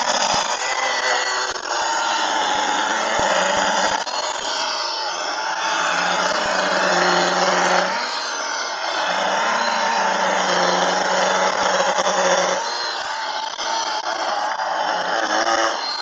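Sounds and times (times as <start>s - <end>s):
electric chainsaw motor hum: 0.0s - 16.0s.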